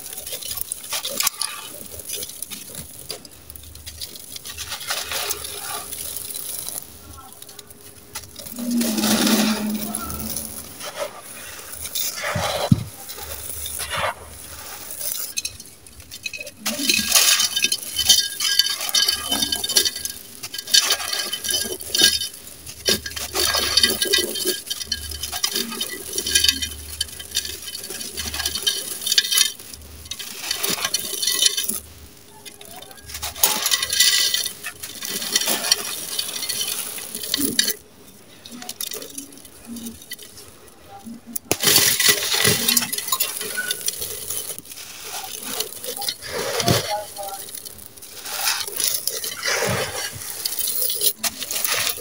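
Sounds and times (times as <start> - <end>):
grains pattering into a pot: 0.0 - 52.0.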